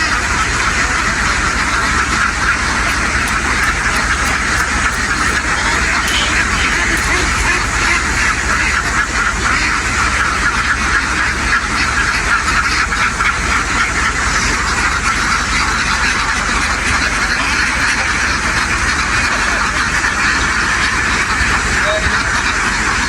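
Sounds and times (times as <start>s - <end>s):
flock of ducks quacking: 0.0s - 23.0s.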